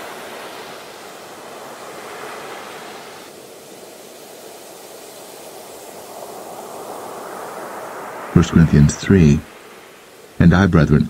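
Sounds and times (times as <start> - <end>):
waves breaking on a beach: 0.0 - 10.5.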